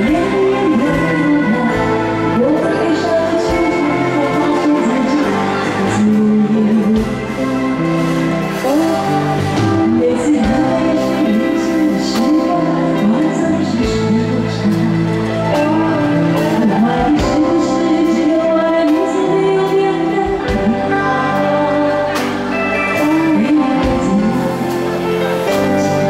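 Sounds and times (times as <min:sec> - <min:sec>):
amplified band with drums: 0:00.0 - 0:26.0
woman singing into microphone: 0:00.0 - 0:26.0.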